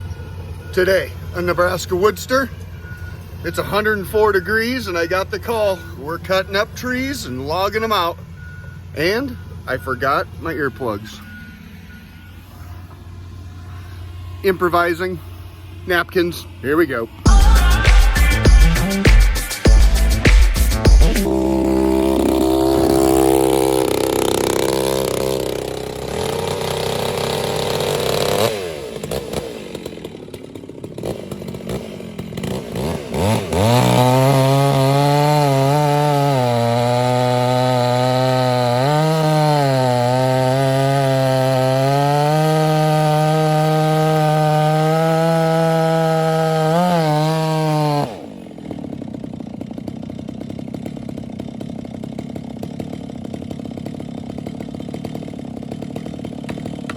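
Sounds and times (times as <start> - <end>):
chainsaw cutting wood: 0.0 - 9.2, 17.2 - 56.9.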